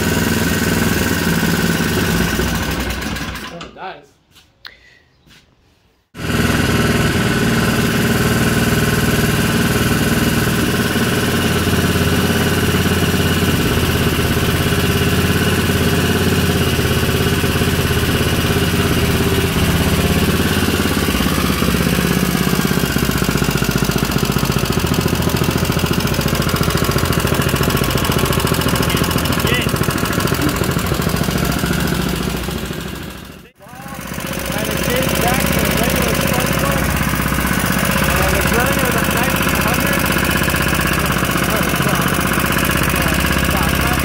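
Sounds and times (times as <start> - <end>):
small engine running steadily: 0.0 - 3.6, 6.2 - 44.0.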